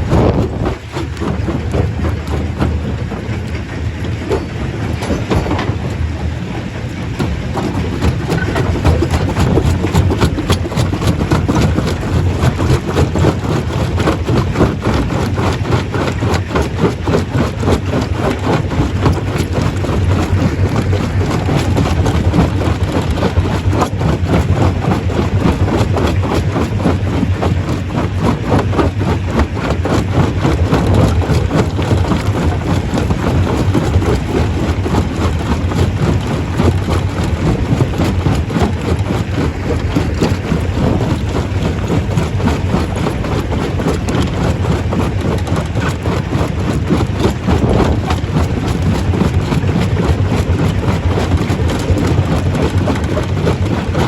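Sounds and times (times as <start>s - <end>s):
rock rattling being broken: 0.0s - 54.0s.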